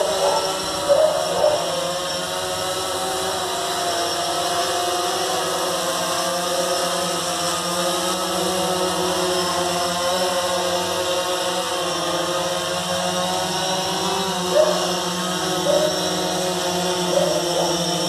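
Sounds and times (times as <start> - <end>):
drone motors humming: 0.0 - 18.0.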